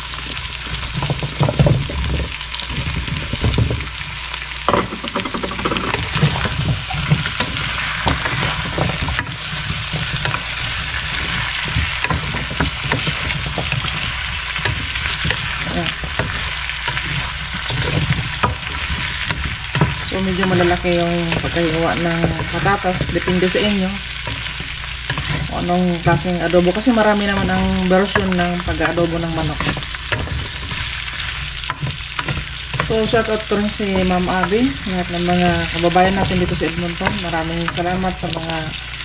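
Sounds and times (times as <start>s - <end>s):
chicken sizzling in a wok: 0.0s - 39.0s
wooden spatula scraping a pan: 0.3s - 39.0s.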